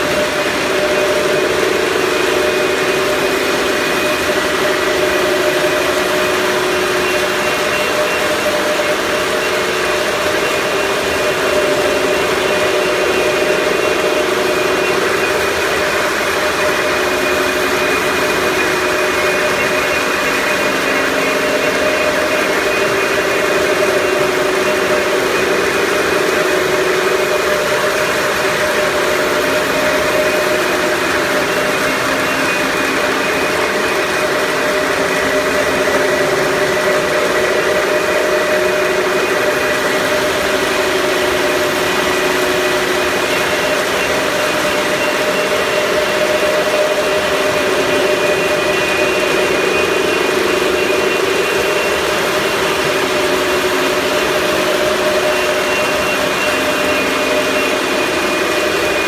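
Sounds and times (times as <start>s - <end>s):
machine humming: 0.0s - 59.0s.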